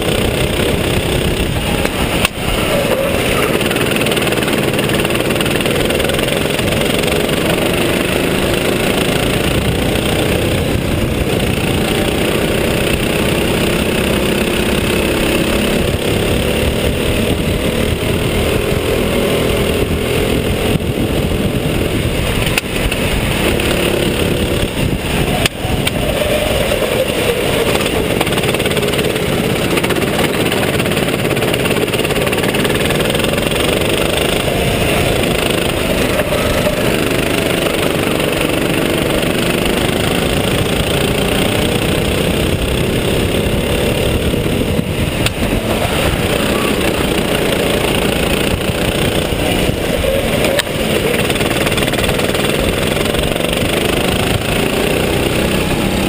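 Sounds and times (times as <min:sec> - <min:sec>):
kart engine revving: 0:00.0 - 0:56.0
other kart engines: 0:00.0 - 0:56.0
wind and road noise: 0:00.0 - 0:56.0.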